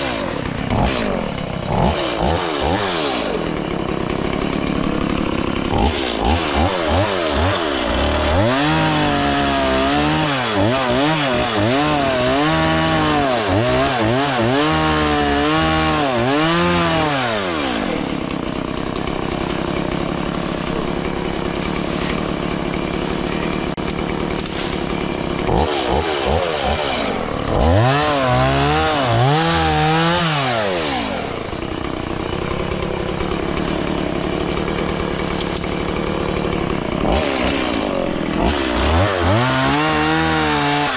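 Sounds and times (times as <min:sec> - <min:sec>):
chainsaw engine revving: 0:00.0 - 0:40.9.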